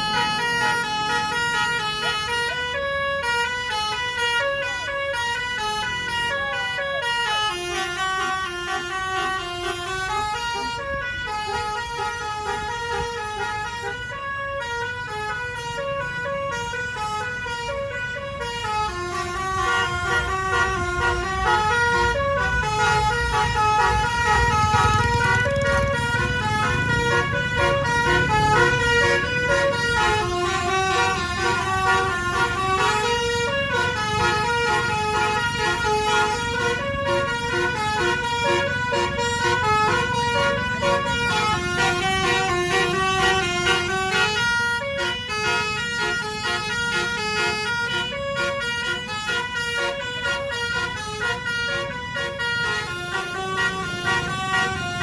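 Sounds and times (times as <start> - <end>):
bus horn playing a melody: 0.0 - 55.0
low rumble of bus and road: 0.0 - 55.0.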